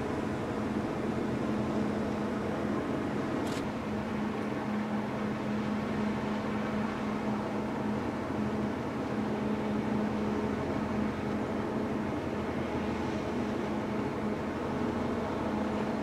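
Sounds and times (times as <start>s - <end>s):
constant hum tone: 0.0s - 16.0s
ship machinery drone: 0.0s - 16.0s.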